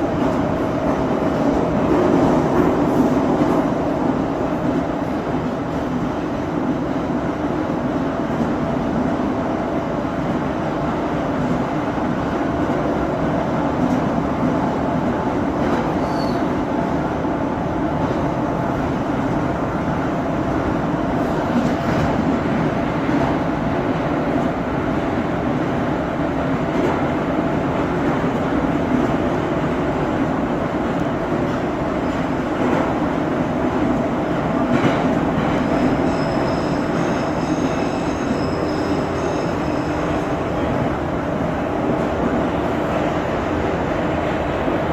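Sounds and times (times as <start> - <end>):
train rumbling through tunnel: 0.0 - 44.9.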